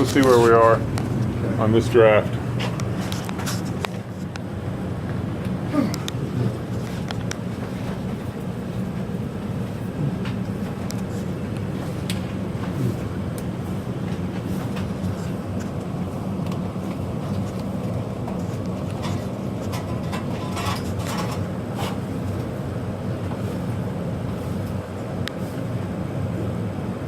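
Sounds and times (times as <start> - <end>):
gas heaters rumbling: 0.0 - 27.0.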